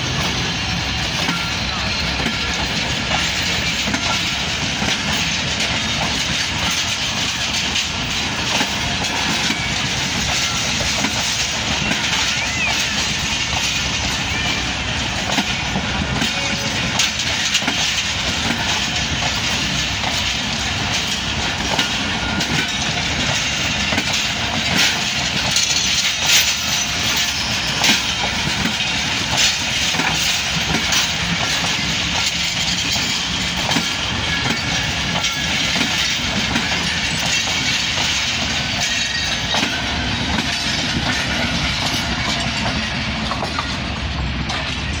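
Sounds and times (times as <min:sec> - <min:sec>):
train coaches rumbling past: 0:00.0 - 0:45.0
wheels clicking over rail joints: 0:00.0 - 0:45.0.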